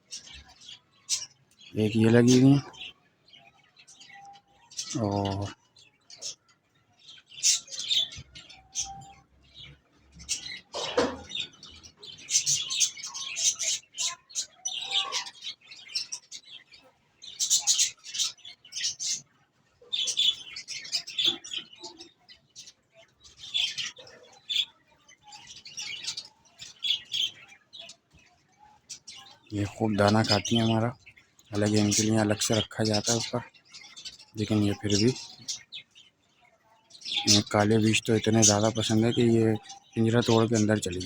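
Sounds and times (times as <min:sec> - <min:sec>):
parrots chirping: 0:00.0 - 0:28.0, 0:28.8 - 0:36.1, 0:37.0 - 0:41.0.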